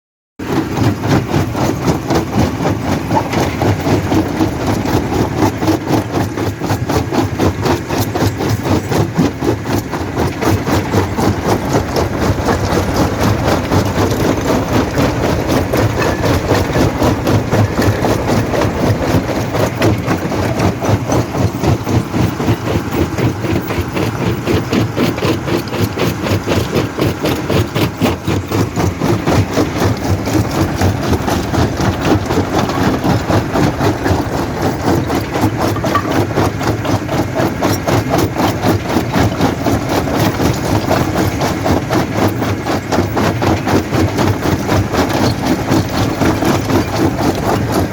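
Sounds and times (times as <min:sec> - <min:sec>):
rattling of rock: 0:00.4 - 0:47.9
rock crusher machine drone: 0:00.4 - 0:47.9.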